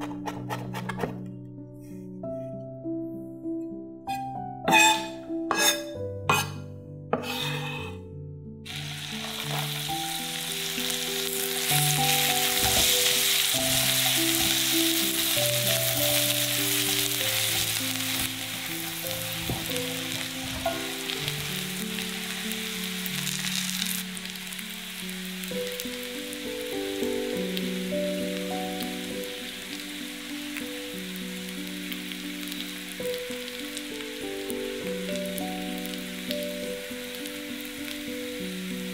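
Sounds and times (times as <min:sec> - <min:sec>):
food sizzling in a frying pan: 0:04.7 - 0:06.4, 0:08.7 - 0:38.9.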